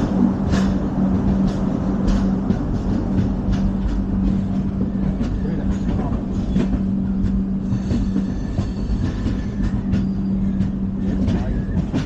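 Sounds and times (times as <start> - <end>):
train coach rumbling on track: 0.0 - 12.0.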